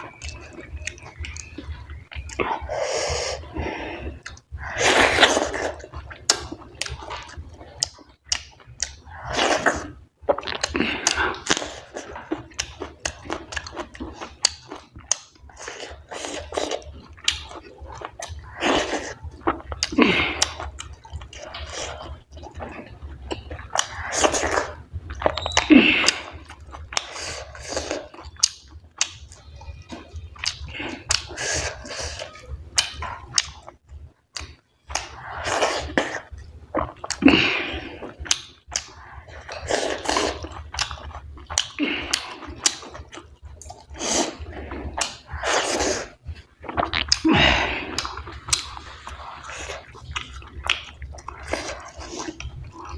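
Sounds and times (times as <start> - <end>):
mouth chewing food: 0.0 - 52.9.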